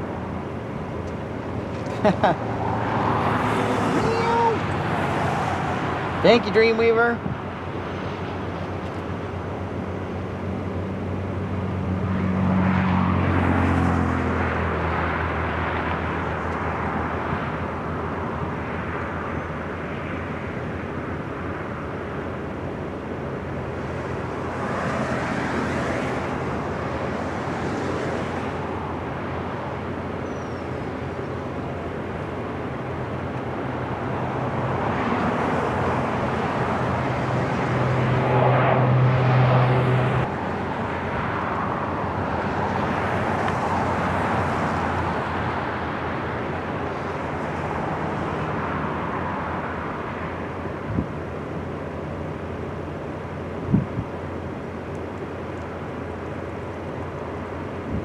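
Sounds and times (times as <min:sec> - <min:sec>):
propeller aircraft droning: 0:00.0 - 0:58.0.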